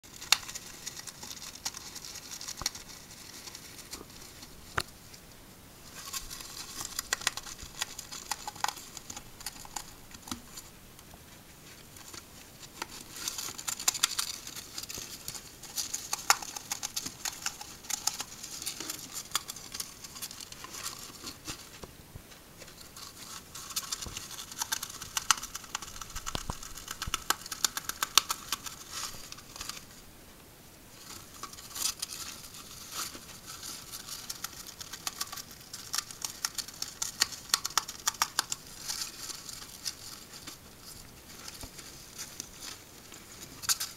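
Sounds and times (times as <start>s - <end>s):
hamster gnawing cardboard tube: 0.0s - 4.9s, 5.9s - 10.7s, 12.0s - 21.8s, 22.8s - 29.9s, 31.0s - 43.9s.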